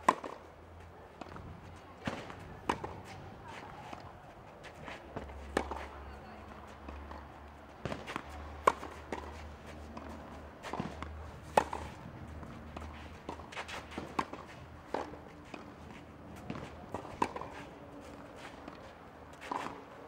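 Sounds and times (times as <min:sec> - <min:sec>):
tennis ball bouncing: 0:00.0 - 0:00.4, 0:01.1 - 0:20.0
tennis ball struck with racket: 0:00.0 - 0:00.4, 0:01.2 - 0:06.0, 0:06.8 - 0:18.8, 0:19.4 - 0:19.9
shoes scuffing on clay court: 0:00.0 - 0:20.0.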